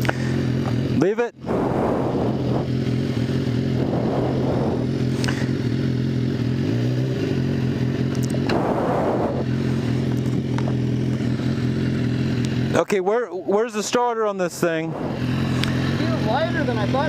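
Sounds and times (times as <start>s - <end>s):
motorcycle engine idling: 0.0s - 1.0s, 2.2s - 8.5s, 9.4s - 13.9s, 15.0s - 17.0s.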